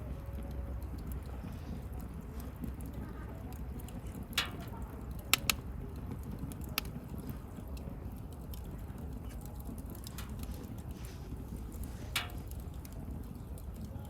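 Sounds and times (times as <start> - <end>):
fire rumbling: 0.0 - 14.0
wood crackling and popping: 0.0 - 14.0.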